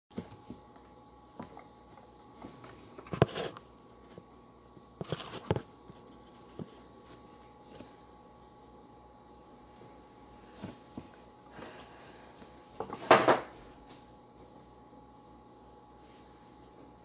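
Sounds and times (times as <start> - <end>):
faint steady hum: 0.1 - 17.0.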